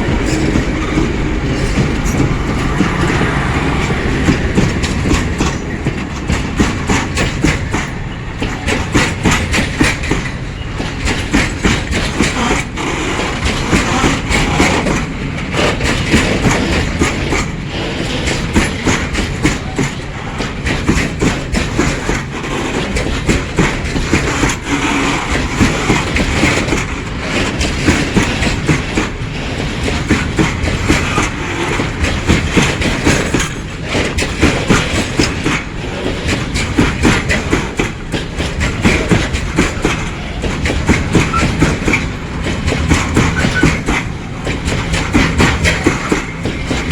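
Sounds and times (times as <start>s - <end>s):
train rumble: 0.0s - 46.9s
train wheels clacking on rail joints: 0.0s - 46.9s.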